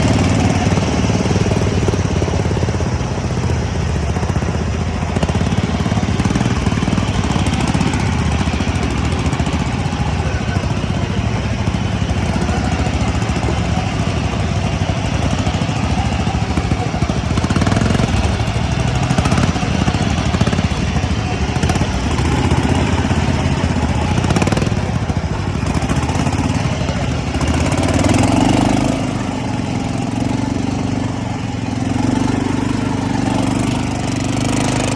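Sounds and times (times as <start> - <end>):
ride-on mower engine: 0.0 - 34.9.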